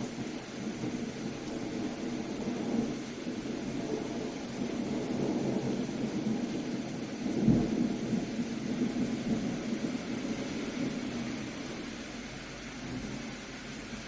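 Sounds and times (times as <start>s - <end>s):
low rumble of thunder: 0.0s - 14.0s
steady rain: 0.0s - 14.0s.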